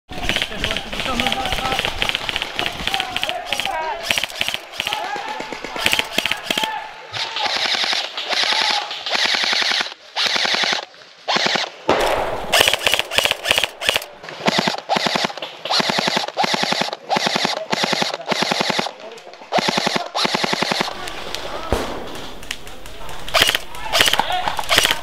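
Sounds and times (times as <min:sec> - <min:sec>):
airsoft gun bursts: 0:00.1 - 0:11.7, 0:12.5 - 0:21.8, 0:22.6 - 0:25.0.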